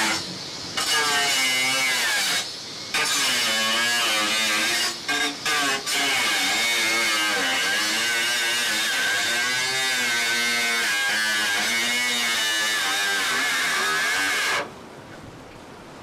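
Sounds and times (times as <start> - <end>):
power tool buzzing whine: 0.0 - 14.8.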